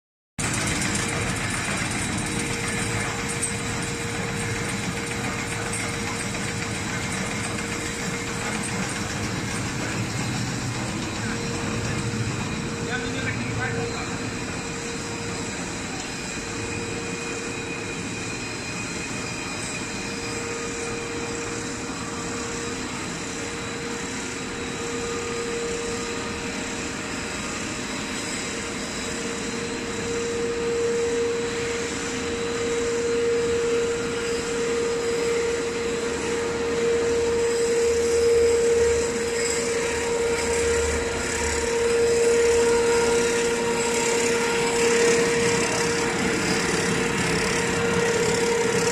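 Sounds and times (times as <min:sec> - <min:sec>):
wire drawing machine hum: 0:00.4 - 0:48.9.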